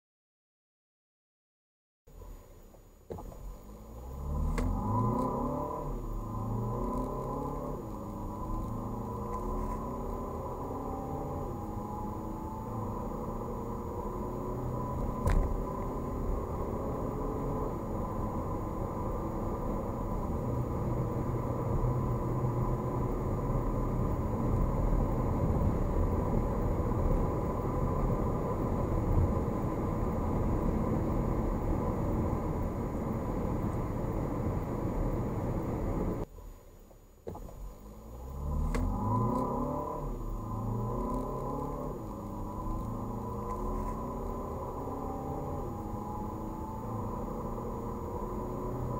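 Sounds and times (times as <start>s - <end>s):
road and wind noise: 2.1s - 48.9s
diesel engine accelerating: 3.1s - 36.3s, 37.3s - 48.9s.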